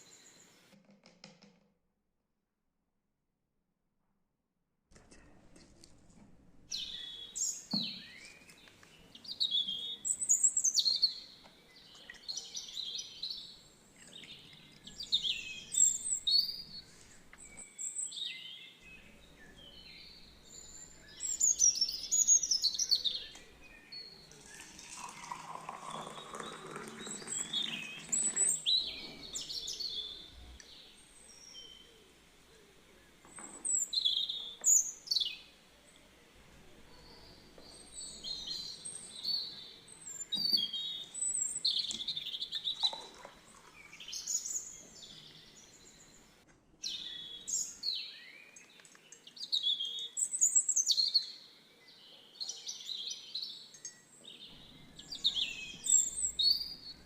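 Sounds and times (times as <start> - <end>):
birds chirping and singing: 6.7 - 57.0.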